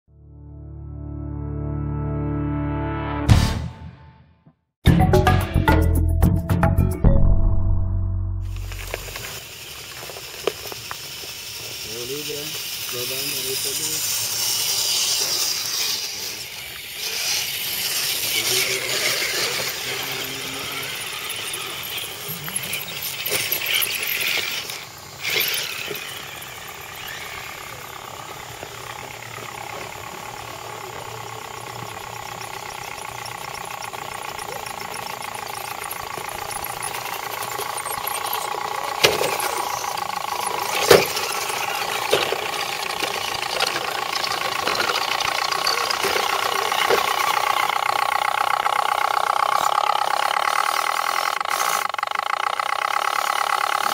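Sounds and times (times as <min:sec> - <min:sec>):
electric motors and gears whining: 0:08.4 - 0:53.9.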